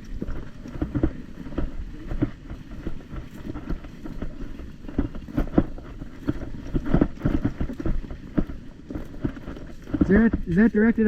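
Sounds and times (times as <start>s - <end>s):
footsteps through grass: 0.0s - 11.0s
wind buffeting microphone: 0.0s - 11.0s.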